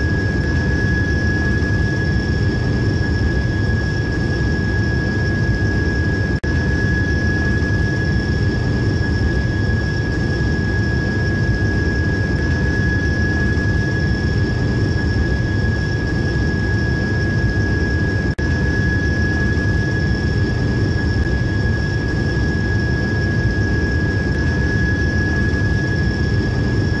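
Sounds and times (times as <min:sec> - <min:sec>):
constant high whine: 0:00.0 - 0:27.0.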